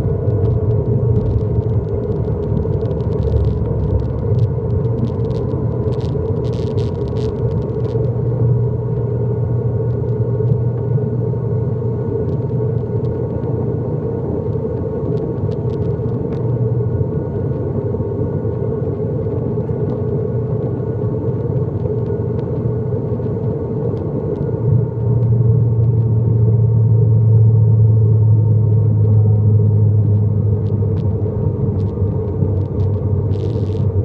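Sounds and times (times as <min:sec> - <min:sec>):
faint thin whine: 0:00.0 - 0:34.0
turboprop engine cabin drone: 0:00.0 - 0:34.0.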